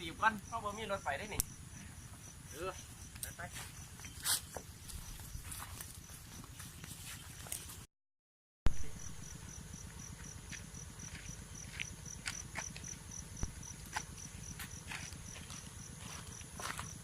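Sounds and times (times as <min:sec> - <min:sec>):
insects chirping: 0:00.0 - 0:07.8, 0:08.8 - 0:17.0.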